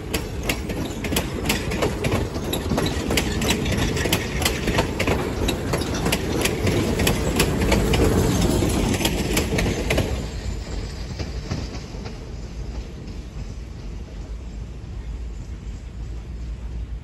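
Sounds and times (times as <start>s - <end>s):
train wheels clicking over rail joints: 0.0s - 14.8s
train rolling rumble: 0.0s - 17.0s.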